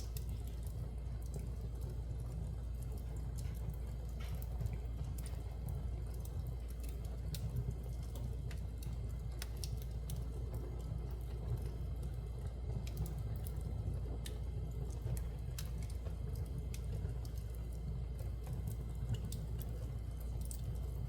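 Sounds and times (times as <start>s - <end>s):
fire crackling and popping: 0.0s - 21.0s
low rumble of fire: 0.0s - 21.0s.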